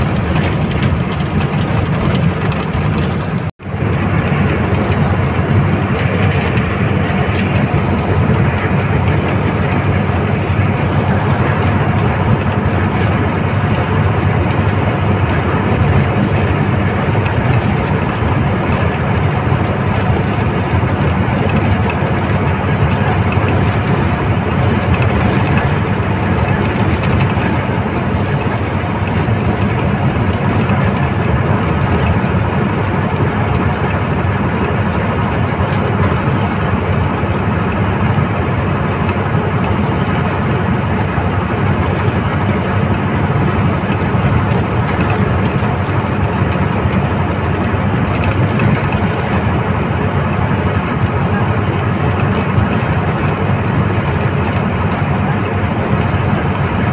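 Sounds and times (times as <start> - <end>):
bus diesel engine drone: 0.0 - 56.9.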